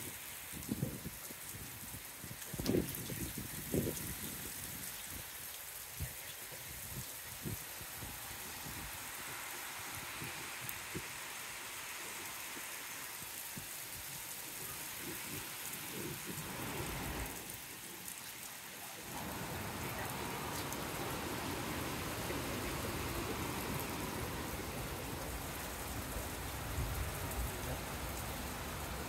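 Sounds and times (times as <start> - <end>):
heavy rain on rooftops: 0.0 - 29.0.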